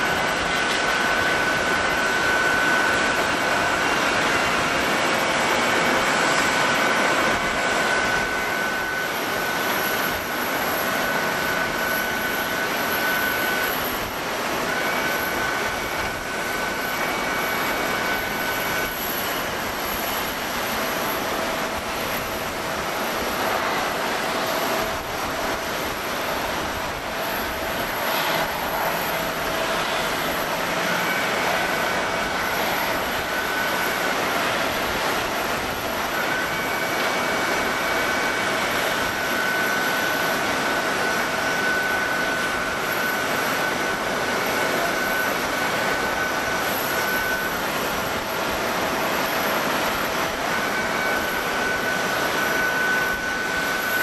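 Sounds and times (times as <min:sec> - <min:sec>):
high jet whine: 0:00.0 - 0:54.0
jet engine roar: 0:00.0 - 0:54.0.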